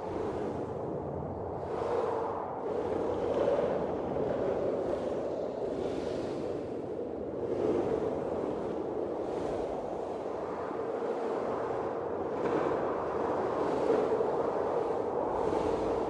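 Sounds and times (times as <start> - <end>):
blizzard wind gusting: 0.0 - 16.0.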